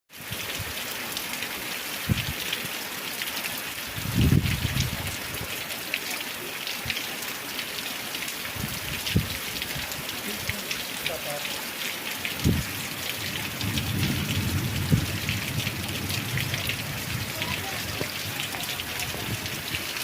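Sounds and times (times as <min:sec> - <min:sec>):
heavy rain falling: 0:00.1 - 0:20.0.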